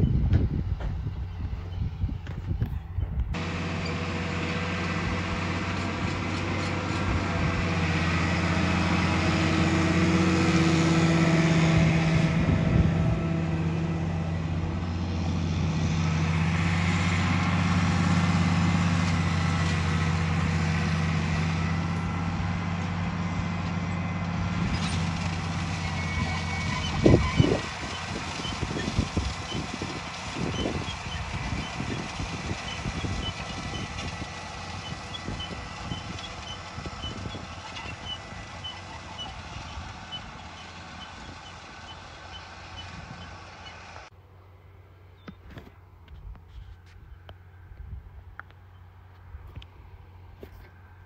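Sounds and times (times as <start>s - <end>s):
diesel tractor engine under load: 0.0s - 51.0s.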